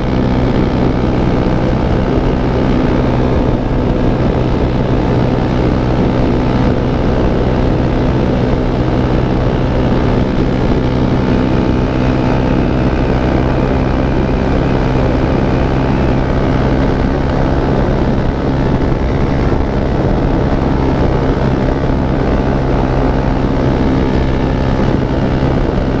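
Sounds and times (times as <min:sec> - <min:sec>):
engine droning steadily: 0:00.0 - 0:26.0.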